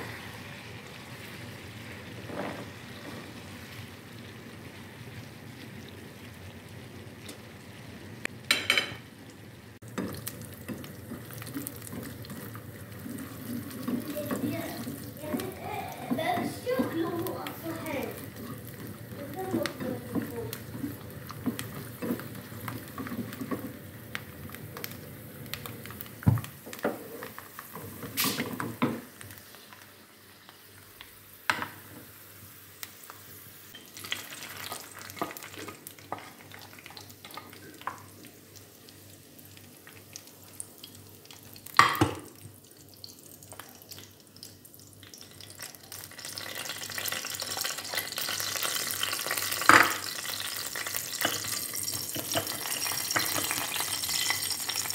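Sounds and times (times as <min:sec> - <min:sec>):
nuts sizzling in hot oil: 0:00.0 - 0:54.9.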